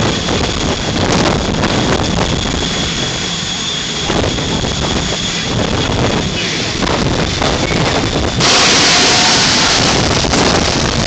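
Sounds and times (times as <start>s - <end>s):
jet engine roaring: 0.0s - 11.0s.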